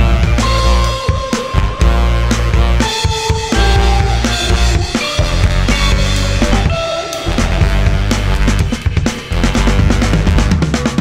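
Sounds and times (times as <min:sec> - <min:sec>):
low trombone notes: 0:00.0 - 0:10.7.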